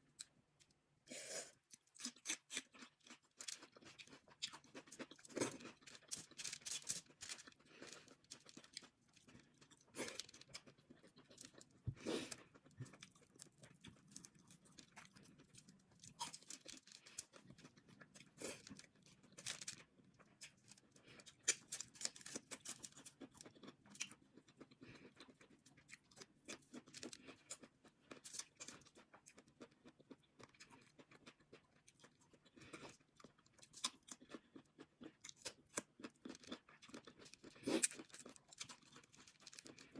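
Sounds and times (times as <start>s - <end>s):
chewing and crunching seafood: 1.5s - 39.9s.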